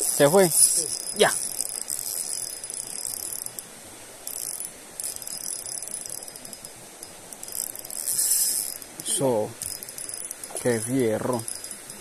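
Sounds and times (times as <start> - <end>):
fishing reel whirring and clicking: 0.1 - 12.0.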